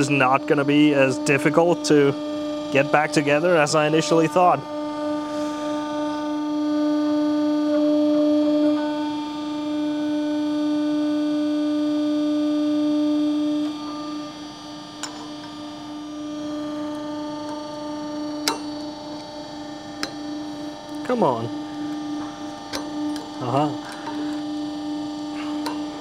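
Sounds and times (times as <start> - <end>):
hydraulic press pump humming: 0.0 - 26.0.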